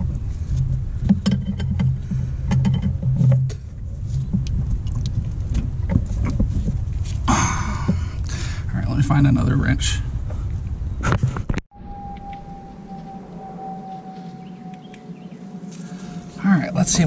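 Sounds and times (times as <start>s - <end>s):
steady low hum: 0.0s - 11.1s, 11.7s - 17.0s.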